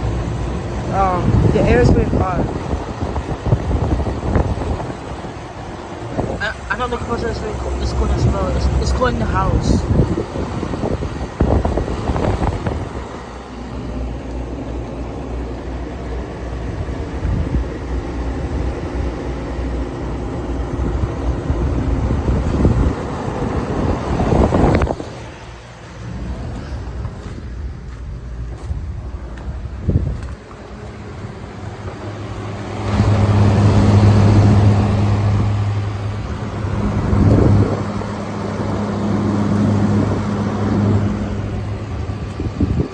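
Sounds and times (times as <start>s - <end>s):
air conditioner compressor hum: 0.0s - 42.9s
fan noise: 0.0s - 42.9s.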